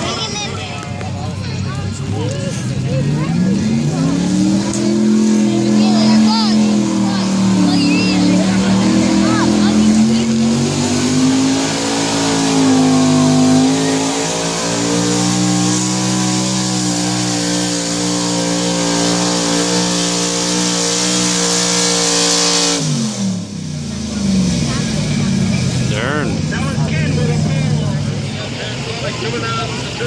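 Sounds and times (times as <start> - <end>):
tractor engine high-revving: 1.8 - 30.0.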